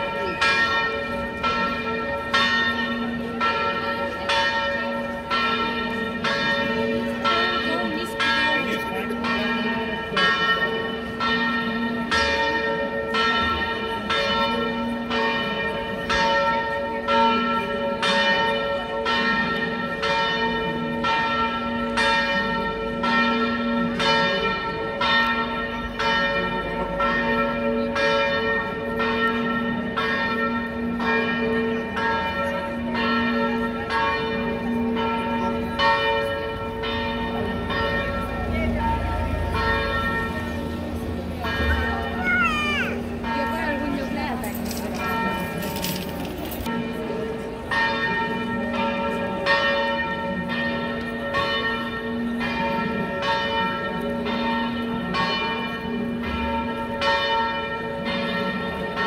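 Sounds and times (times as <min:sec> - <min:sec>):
church bells pealing: 0:00.0 - 0:59.0.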